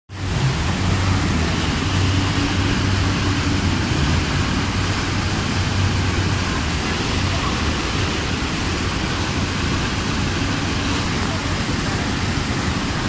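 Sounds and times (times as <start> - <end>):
jet boat engine drone: 0.1 - 13.0
white-water rapids roaring: 0.1 - 13.0.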